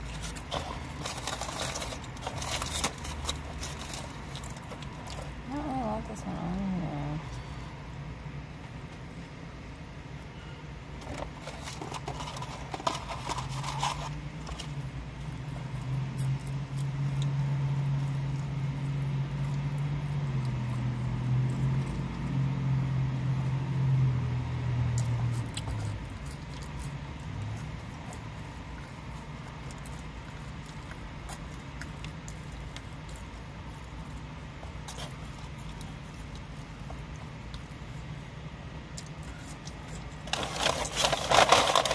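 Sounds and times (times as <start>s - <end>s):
wet chewing sounds: 0.0s - 6.0s, 11.0s - 41.9s.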